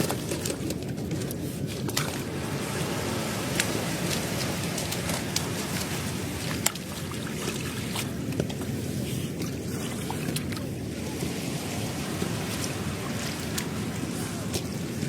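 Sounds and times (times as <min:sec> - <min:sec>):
wind rumbling on microphone: 0:00.0 - 0:15.0
seashore noise: 0:02.1 - 0:15.0.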